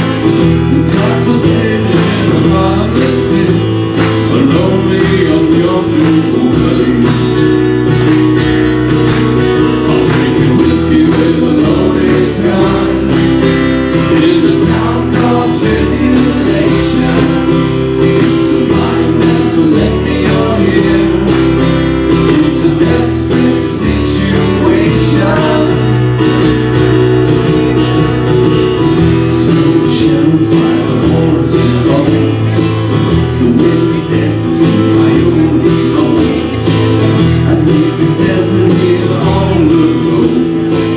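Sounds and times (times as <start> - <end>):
acoustic guitars strumming: 0.0 - 40.9
keyboard accompaniment: 0.0 - 40.9.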